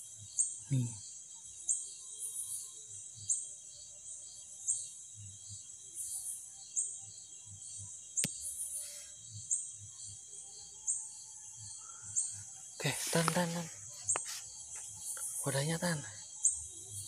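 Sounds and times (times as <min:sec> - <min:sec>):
high buzzing insect call: 0:00.0 - 0:17.0
insects trilling: 0:00.0 - 0:17.0.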